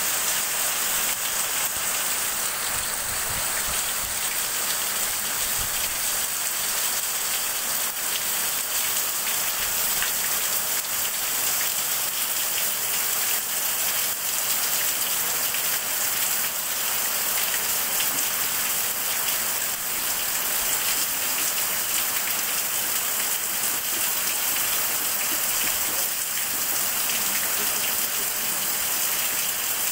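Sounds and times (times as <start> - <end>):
heavy rain: 0.0 - 29.9
runoff streaming onto concrete: 0.0 - 29.9.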